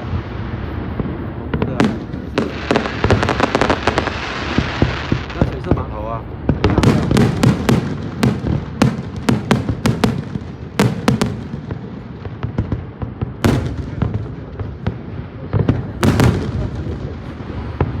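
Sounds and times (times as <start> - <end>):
fireworks bangs and pops: 0.0 - 18.0
low rumble of fireworks: 0.0 - 18.0.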